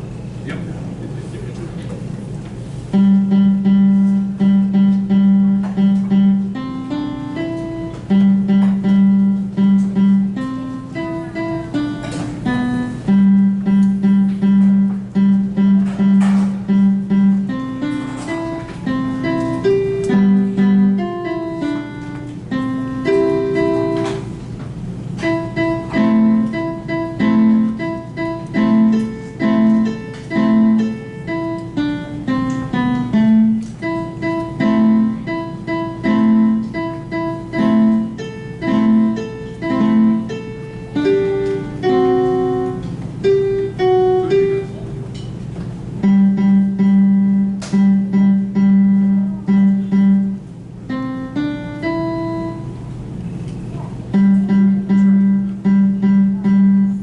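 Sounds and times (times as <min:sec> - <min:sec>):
simple solo melody: 0:02.9 - 0:24.3, 0:25.2 - 0:45.2, 0:45.8 - 0:53.0, 0:54.1 - 0:57.0.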